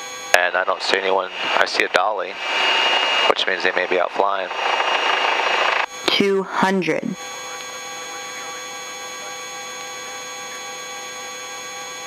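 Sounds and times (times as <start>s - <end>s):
helicopter turbine whine: 0.0s - 12.0s.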